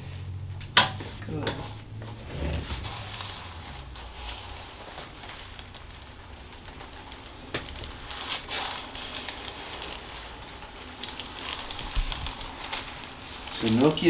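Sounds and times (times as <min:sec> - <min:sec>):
soft rustling and crackles: 0:00.0 - 0:14.0.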